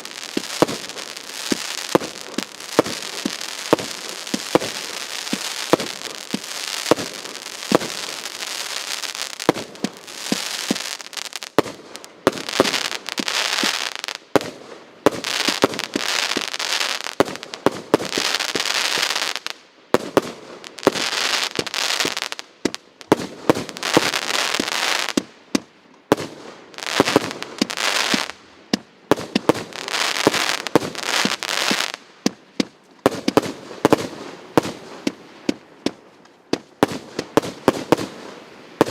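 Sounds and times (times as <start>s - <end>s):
crackling hiss of bursting fireworks: 0.0s - 38.9s.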